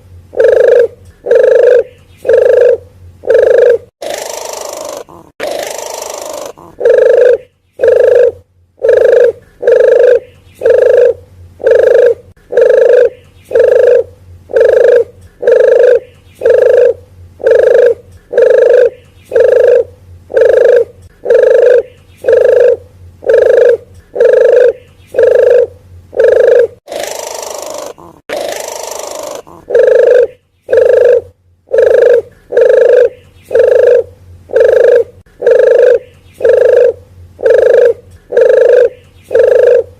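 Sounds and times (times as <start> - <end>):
dove cooing call: 0.3 - 39.9.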